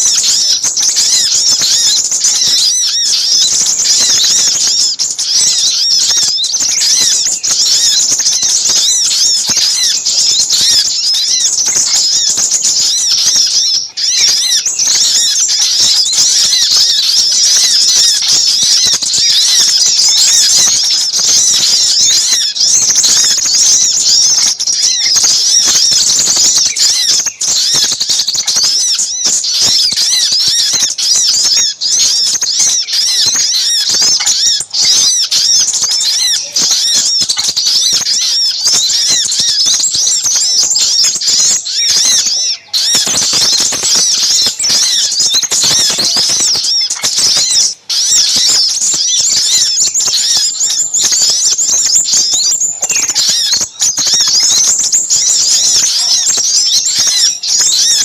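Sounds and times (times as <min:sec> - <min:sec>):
birds chirping in a chorus: 0:00.0 - 0:58.0
sunbird calls: 0:00.0 - 0:58.0.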